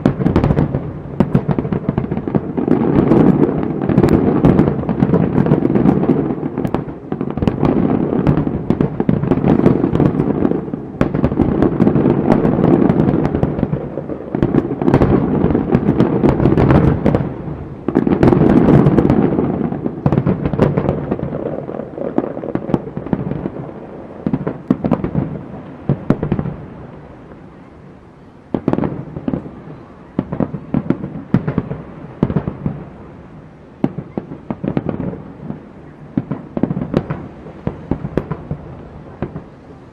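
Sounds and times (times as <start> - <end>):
fireworks bursting with crackle: 0.0 - 39.9.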